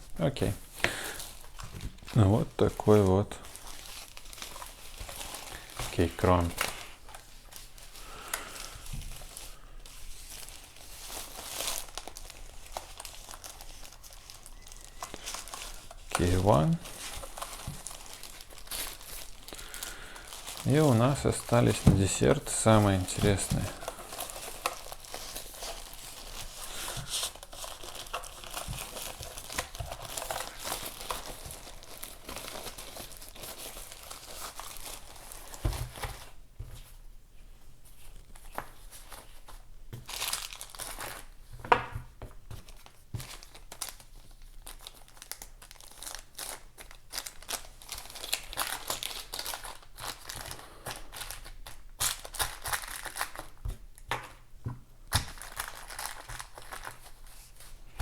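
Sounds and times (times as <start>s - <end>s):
wrapping crinkling and tearing: 0.0s - 36.4s, 37.9s - 41.8s, 42.5s - 54.4s, 55.0s - 58.0s.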